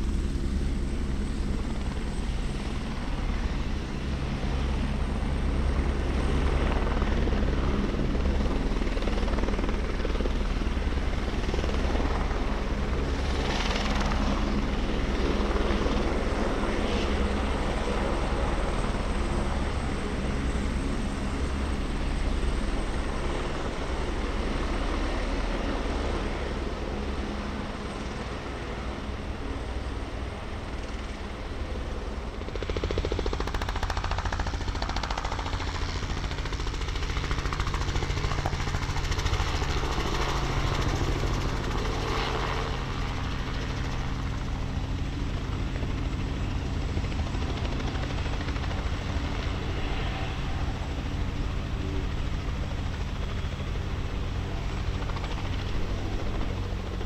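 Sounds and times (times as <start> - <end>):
turbine helicopter hovering: 0.0 - 57.0.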